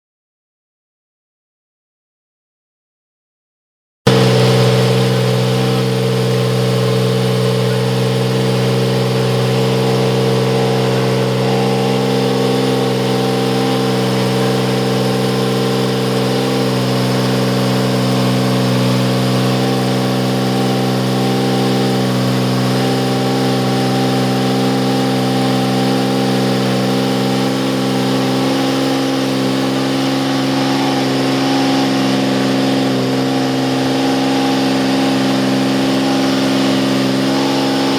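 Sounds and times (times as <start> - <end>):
racing car engine idling: 4.1 - 37.9.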